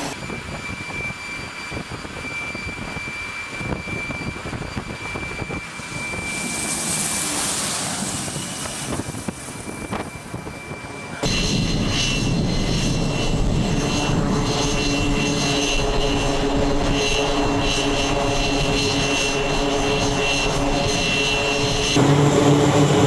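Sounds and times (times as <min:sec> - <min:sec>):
high turbine whine: 0:00.0 - 0:23.0
turboprop engines droning: 0:00.0 - 0:23.0.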